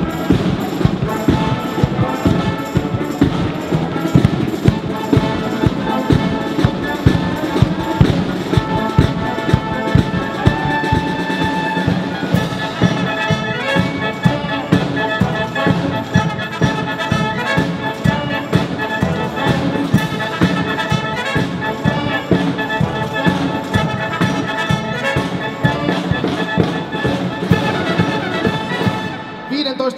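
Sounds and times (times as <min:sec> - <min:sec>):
brass carrying tune: 0:00.0 - 0:29.9
military band playing: 0:00.0 - 0:29.9.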